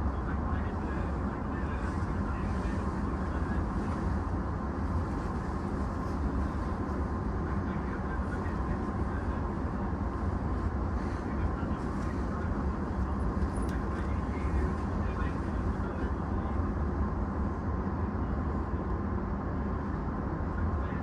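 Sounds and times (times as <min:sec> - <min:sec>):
faint steady whine: 0:00.0 - 0:21.0
train equipment rumble and hum: 0:00.0 - 0:21.0.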